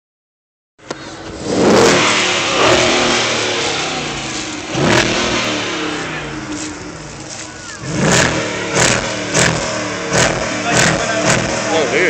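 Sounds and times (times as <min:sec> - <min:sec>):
car engine revving: 0:00.9 - 0:12.0.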